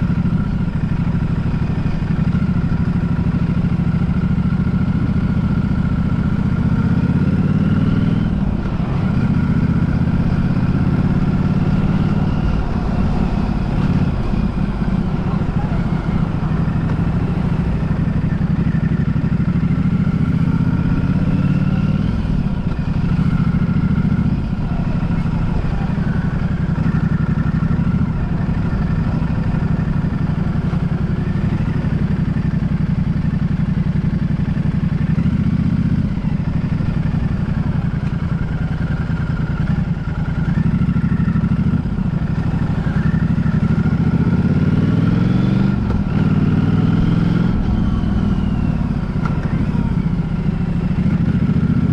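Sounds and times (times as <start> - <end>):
vehicle engine running: 0.0 - 51.9.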